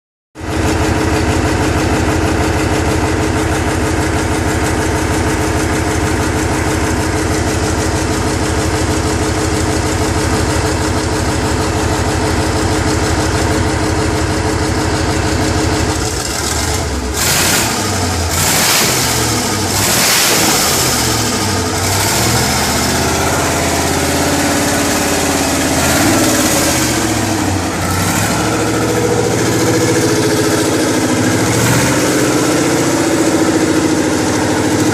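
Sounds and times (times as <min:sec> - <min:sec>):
diesel engine running: 0:00.4 - 0:34.9.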